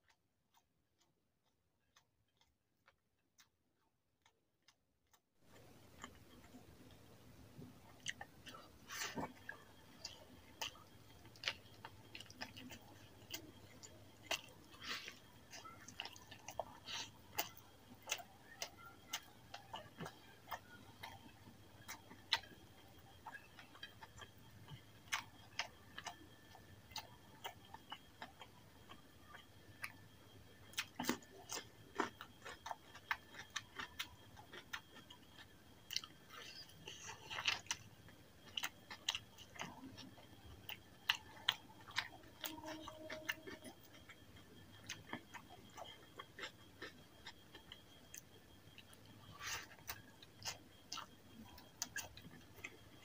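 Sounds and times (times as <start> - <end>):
wet chewing and lip smacks: 0.0 - 53.0.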